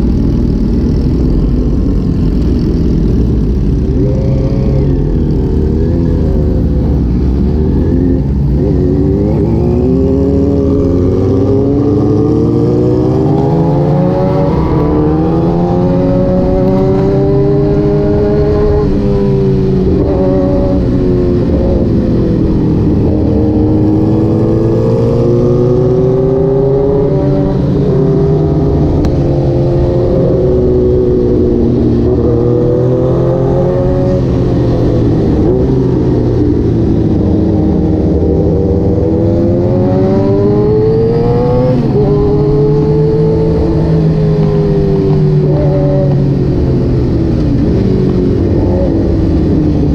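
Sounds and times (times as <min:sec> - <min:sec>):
motorcycle engine revving: 0:00.0 - 0:49.9
wind and road noise: 0:00.0 - 0:49.9.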